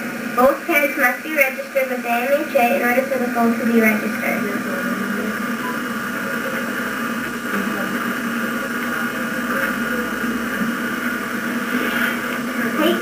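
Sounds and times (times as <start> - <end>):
tape hiss: 0.0 - 13.0.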